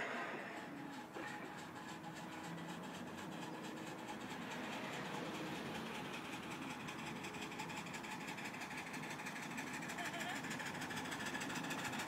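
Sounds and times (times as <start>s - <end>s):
miniature train rattling on track: 0.6s - 12.0s.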